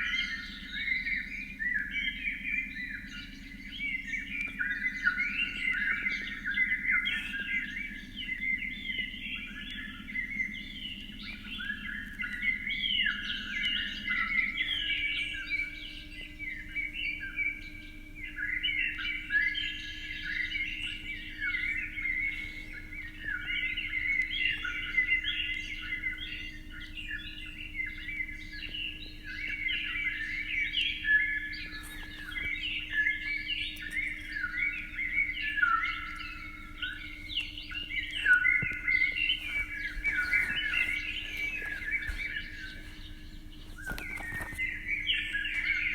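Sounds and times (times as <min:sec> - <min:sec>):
faint low hum: 0:00.0 - 0:45.9
small birds chirping: 0:00.0 - 0:45.9.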